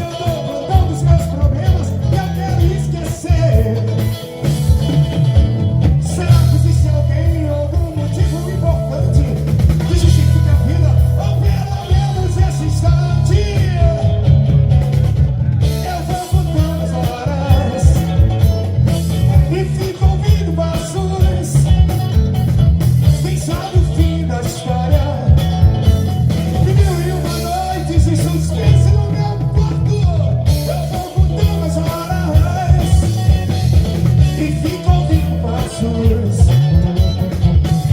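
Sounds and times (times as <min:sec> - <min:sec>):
person singing: 0:00.0 - 0:04.4, 0:06.0 - 0:14.6, 0:15.6 - 0:22.0, 0:23.1 - 0:25.7, 0:26.5 - 0:33.6, 0:34.2 - 0:37.2
heavy bass beat: 0:00.0 - 0:37.9.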